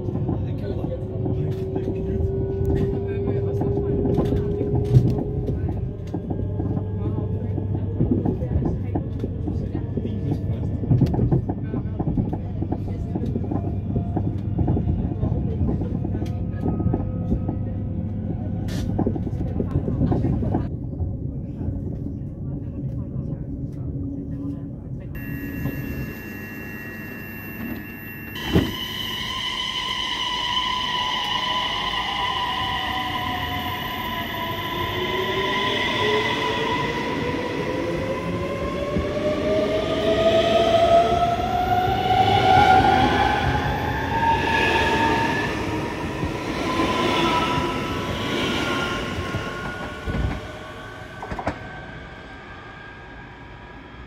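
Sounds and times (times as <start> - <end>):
train wheels rumbling on rails: 0.0 - 25.0, 32.3 - 54.0.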